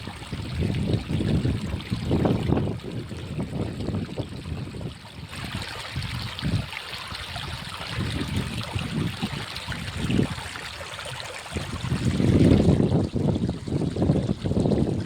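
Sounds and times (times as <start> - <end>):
wind gusts on microphone: 0.0 - 10.6, 11.5 - 15.0
stream trickling: 0.0 - 15.0.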